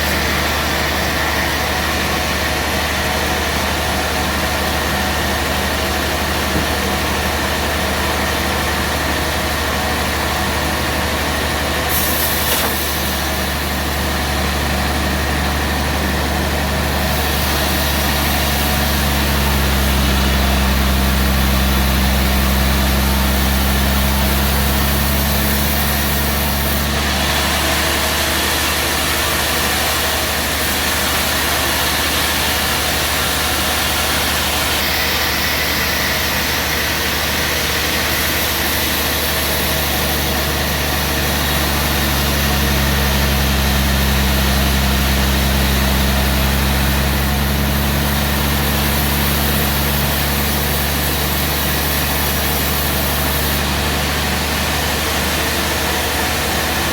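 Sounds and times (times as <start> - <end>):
band sawmill droning and hissing: 0.0 - 56.9.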